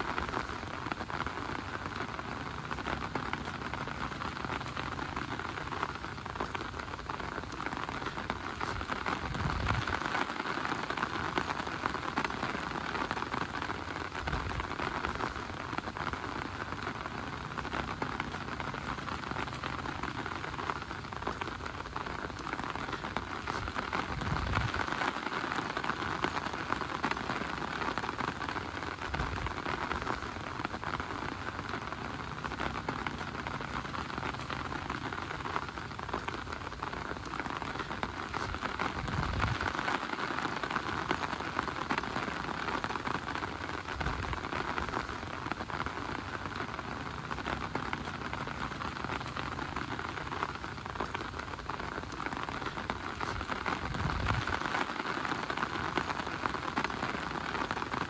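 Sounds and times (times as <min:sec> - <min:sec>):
heavy rain on an umbrella: 0:00.0 - 0:58.0.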